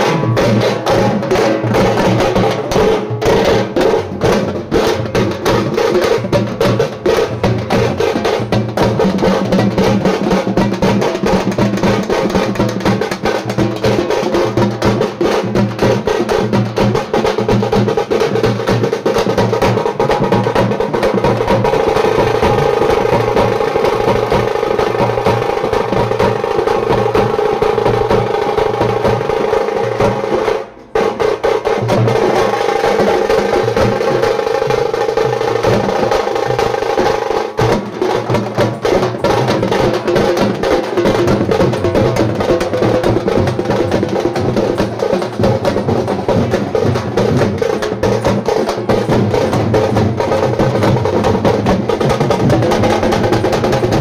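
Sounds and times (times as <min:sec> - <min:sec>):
drum-led music: 0:00.0 - 0:54.0.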